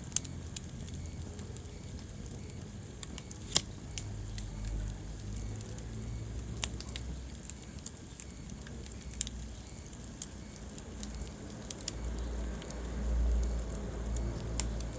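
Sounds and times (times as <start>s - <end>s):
fire crackling and popping: 0.0s - 14.9s.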